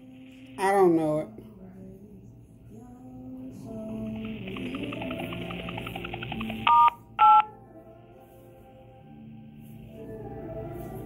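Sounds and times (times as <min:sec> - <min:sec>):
hold music through phone speaker: 0:02.0 - 0:11.0.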